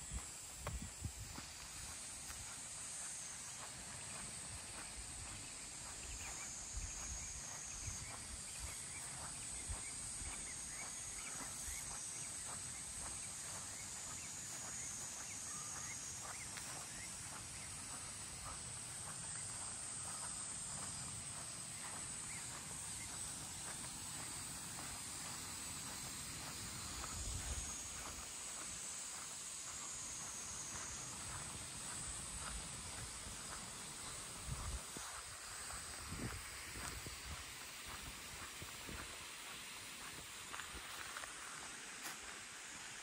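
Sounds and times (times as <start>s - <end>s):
high-pitched insect drone: 0.0s - 43.0s.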